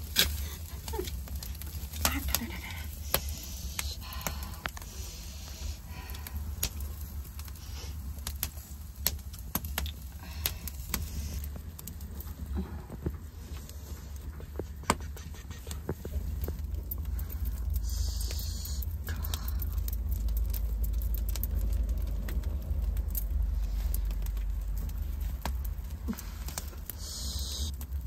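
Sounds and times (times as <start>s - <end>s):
steady low rumble: 0.0s - 28.0s
wood fire crackling and popping: 0.0s - 28.0s.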